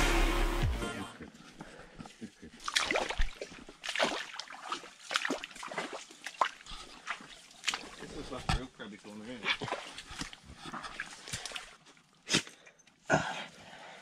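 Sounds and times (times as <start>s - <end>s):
water splashing and sloshing: 2.0s - 13.6s.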